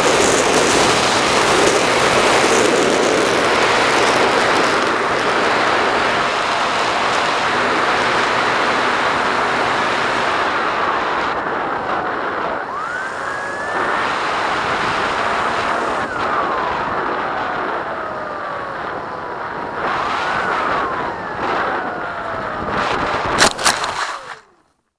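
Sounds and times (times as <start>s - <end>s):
electric motor and propeller whine: 0.0s - 24.7s.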